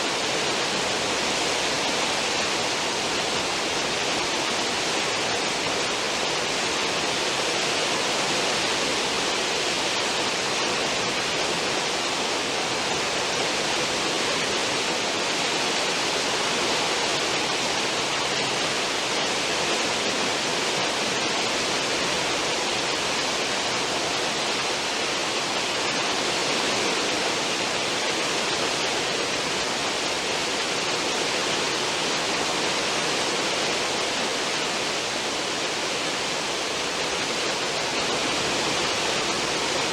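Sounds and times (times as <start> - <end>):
churning water rushing: 0.0 - 39.9.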